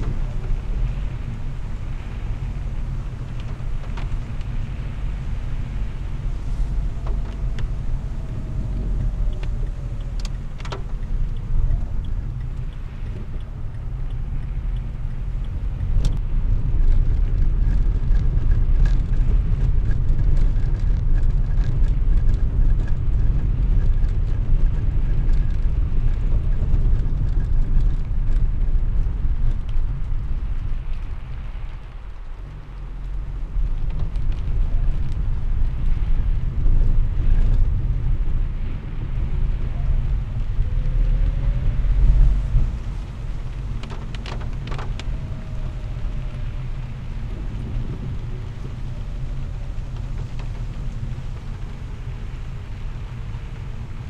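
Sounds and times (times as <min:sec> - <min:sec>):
car engine and tyres rumbling: 0:00.0 - 0:54.0
faint clicks: 0:00.0 - 0:54.0.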